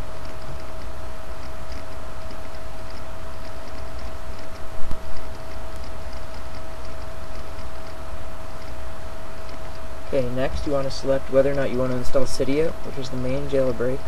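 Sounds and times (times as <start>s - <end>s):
electrical hum and whine: 0.0s - 14.0s
faint ticking: 0.0s - 14.0s.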